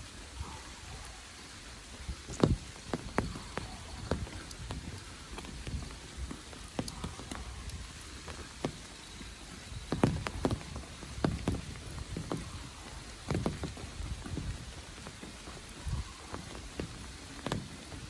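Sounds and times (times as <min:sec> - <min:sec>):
large raindrops tapping: 0:00.0 - 0:18.0
rain patter: 0:00.0 - 0:18.0.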